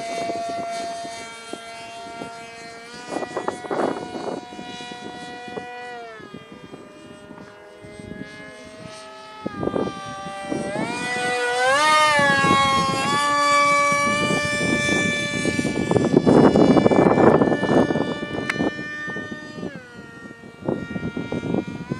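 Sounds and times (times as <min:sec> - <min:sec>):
model plane motor whining: 0:00.0 - 0:21.9
wind noise on microphone: 0:00.0 - 0:21.9.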